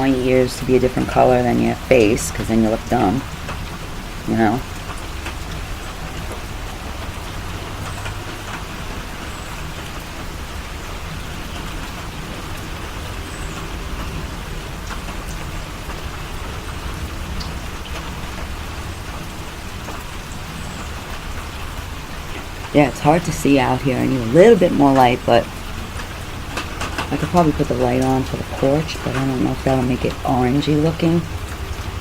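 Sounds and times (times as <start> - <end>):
rain drops ticking: 0.0 - 32.0
steady rain hiss: 0.0 - 32.0.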